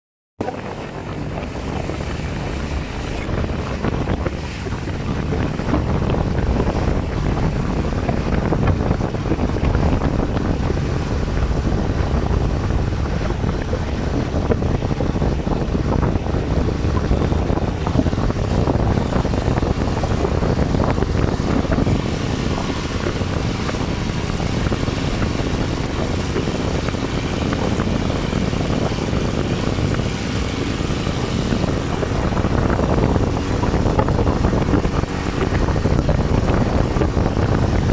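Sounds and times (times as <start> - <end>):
motorboat engine running: 0.4 - 37.9
water rushing past hull: 0.4 - 37.9
wind buffeting microphone: 0.4 - 37.9.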